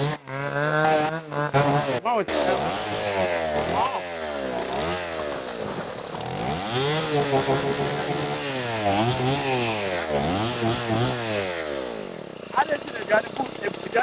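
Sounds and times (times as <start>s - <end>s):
chainsaw engine revving: 0.0s - 14.0s.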